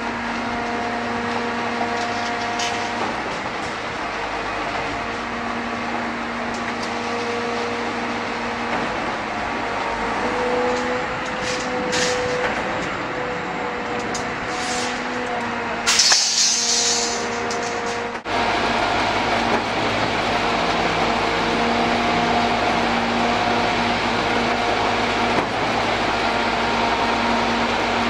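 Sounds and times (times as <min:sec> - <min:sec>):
concrete pump mechanical drone: 0:00.0 - 0:28.0.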